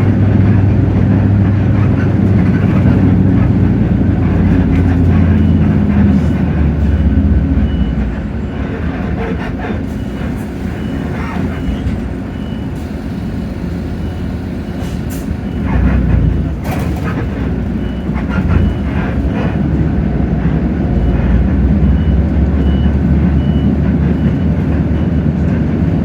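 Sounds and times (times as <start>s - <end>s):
bus diesel engine under load: 0.0s - 26.0s.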